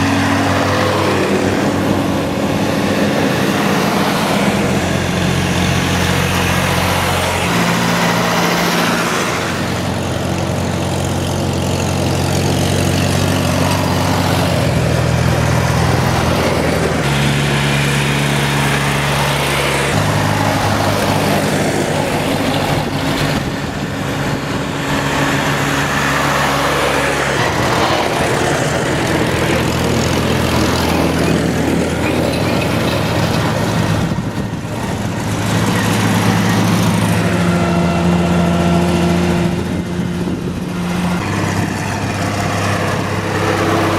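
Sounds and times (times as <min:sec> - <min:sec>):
tractor engines droning: 0:00.0 - 0:43.9.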